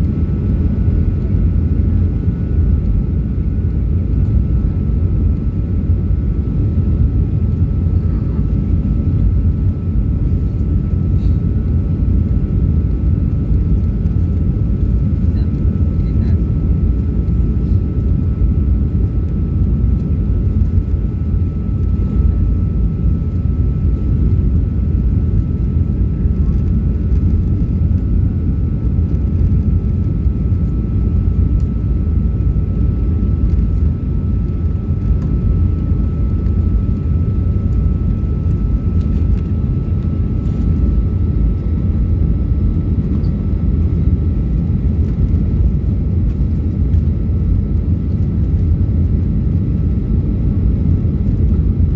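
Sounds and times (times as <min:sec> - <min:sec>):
jet engine and airflow rumble: 0:00.0 - 0:51.9.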